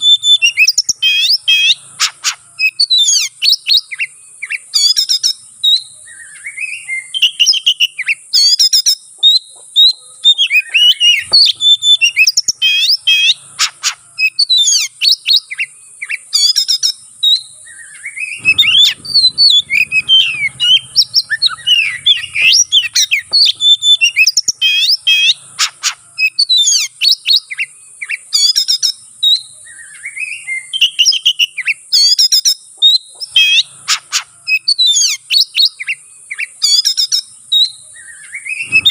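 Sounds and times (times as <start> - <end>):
bird singing varied whistles: 0.0 - 38.9.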